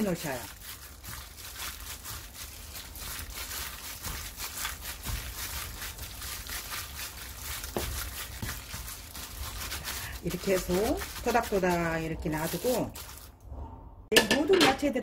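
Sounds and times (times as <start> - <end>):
plastic glove crinkling: 0.0 - 13.4
wet meat squishing: 0.0 - 13.4.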